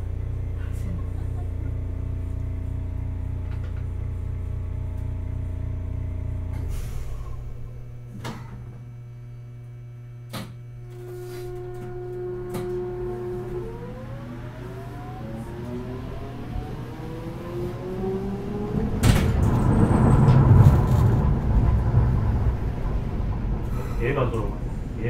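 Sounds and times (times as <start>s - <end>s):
pulsing low hum: 0.0s - 25.0s
tram inverter whine rising: 0.0s - 25.0s.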